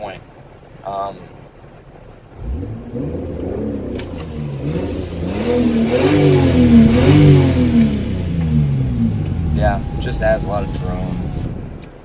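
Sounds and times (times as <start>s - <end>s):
car engine revving: 2.4s - 12.0s.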